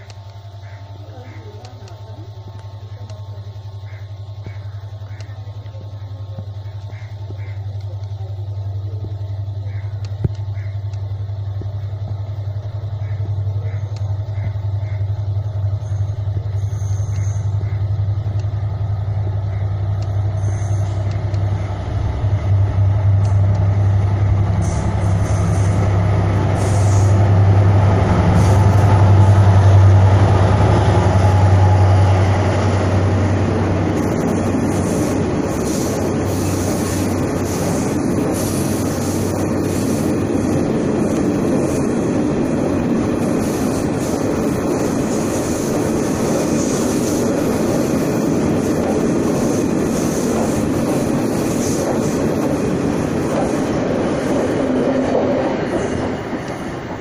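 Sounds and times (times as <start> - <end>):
locomotive engine droning: 0.0 - 57.0
train wheels rumbling on rails: 0.0 - 57.0.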